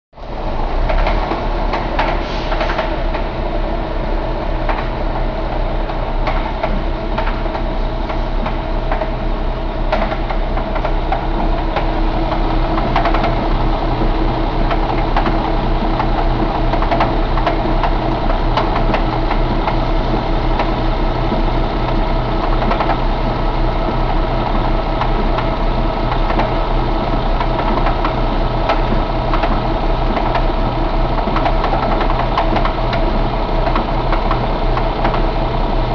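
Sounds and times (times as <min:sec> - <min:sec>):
diesel engine idling: 0:00.2 - 0:35.9
faint engine ticks: 0:04.6 - 0:35.9.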